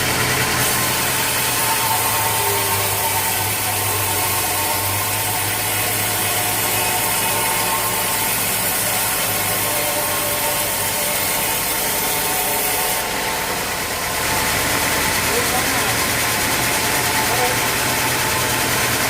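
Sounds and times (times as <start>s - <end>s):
mill motor humming: 0.0s - 19.0s
saw cutting through log: 0.0s - 19.0s.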